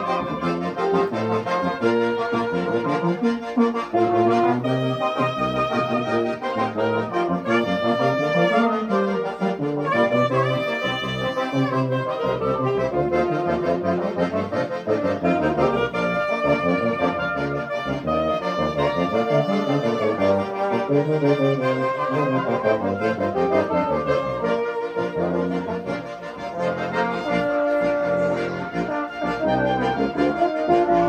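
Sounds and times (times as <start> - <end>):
small brass band playing a hymn: 0.0 - 31.0.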